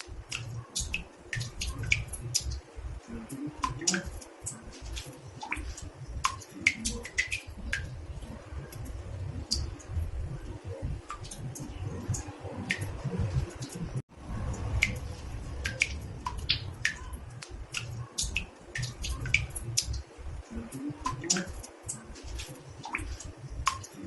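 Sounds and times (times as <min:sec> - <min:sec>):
water drops dripping into bathtub: 0:00.0 - 0:24.0.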